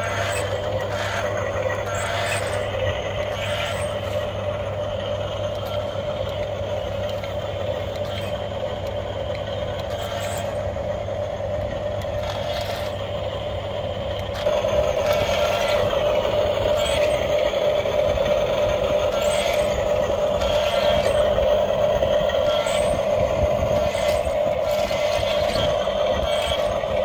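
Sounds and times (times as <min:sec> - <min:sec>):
toy truck motors whirring: 0:00.0 - 0:27.0.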